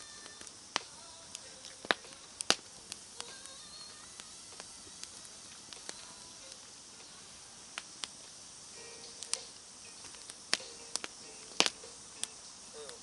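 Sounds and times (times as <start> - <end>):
campfire crackling: 0.0 - 13.0
sharp pops: 0.0 - 13.0.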